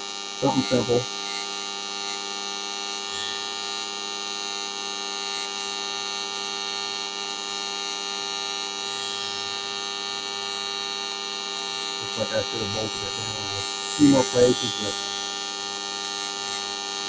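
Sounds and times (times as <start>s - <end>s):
welding arc humming and hissing: 0.0s - 17.0s.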